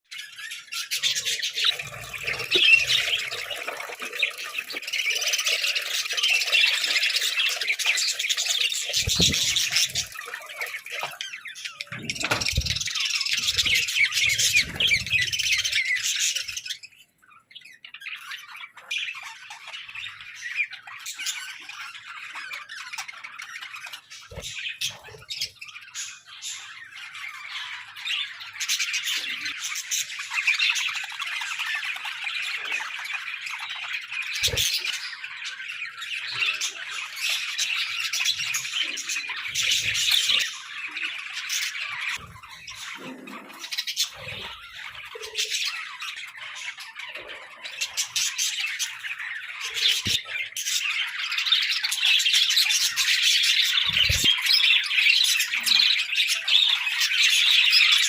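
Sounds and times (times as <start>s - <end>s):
budgerigars chattering and squawking: 0.1s - 58.0s.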